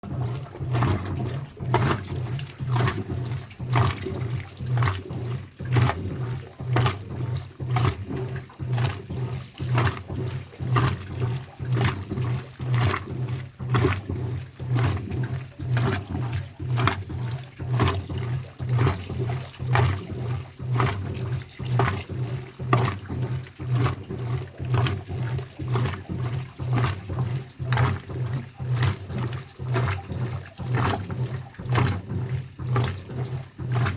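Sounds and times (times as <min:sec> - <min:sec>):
washing machine clacking: 0:00.0 - 0:33.9
washing machine motor hum: 0:00.0 - 0:33.9.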